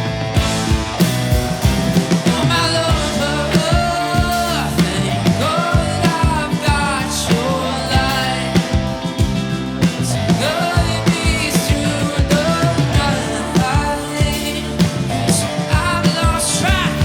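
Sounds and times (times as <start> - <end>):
bass notes: 0.0 - 17.0
drum beat: 0.0 - 17.0
rock band playing: 0.0 - 17.0.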